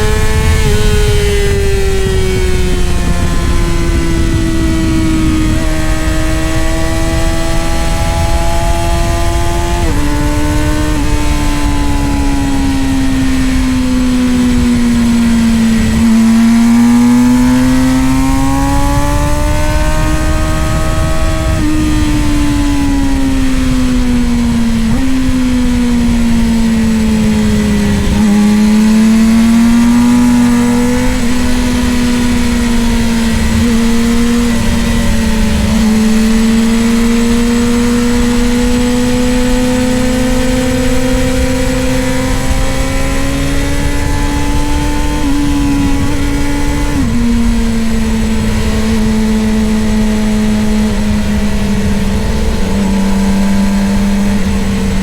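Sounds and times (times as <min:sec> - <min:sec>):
motorcycle engine at high revs: 0:00.0 - 0:55.0
wind noise: 0:00.0 - 0:55.0.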